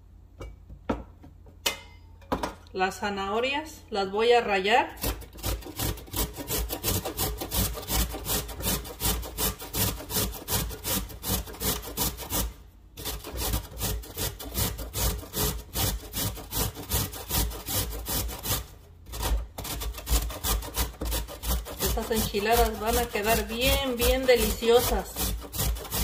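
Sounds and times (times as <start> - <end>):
carrot grating on metal grater: 4.9 - 26.0.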